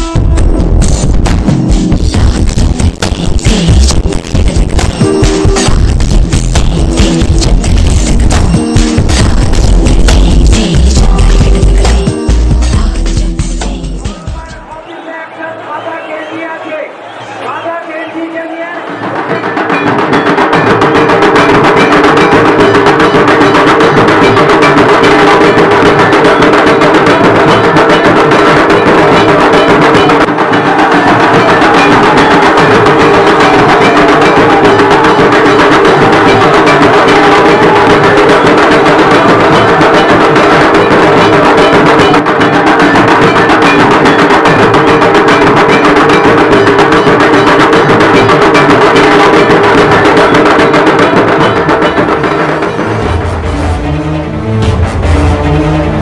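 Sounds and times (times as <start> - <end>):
fast continuous drumming: 0.0 - 14.8, 17.4 - 56.0.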